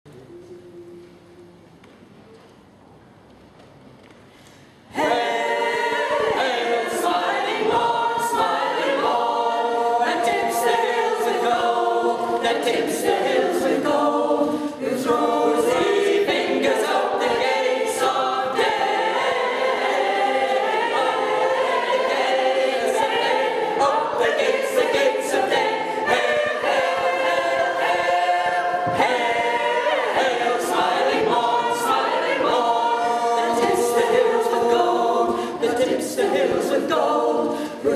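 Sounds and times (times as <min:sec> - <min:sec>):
mixed choir singing unaccompanied: 0:04.9 - 0:37.9.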